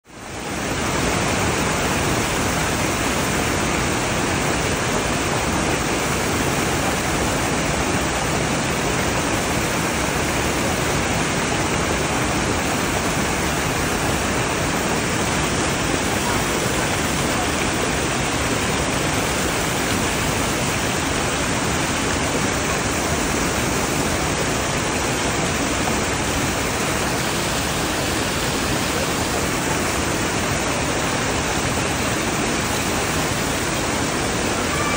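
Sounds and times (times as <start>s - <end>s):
stream water cascading: 0.0s - 34.9s.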